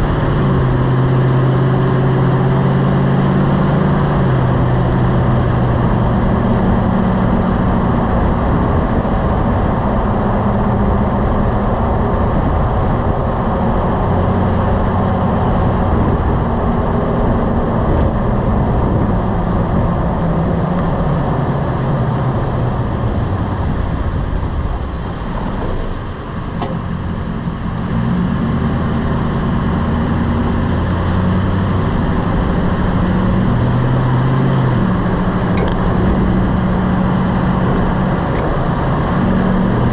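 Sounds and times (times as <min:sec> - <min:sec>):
road noise: 0:00.0 - 0:39.9
truck engine hum: 0:00.0 - 0:39.9.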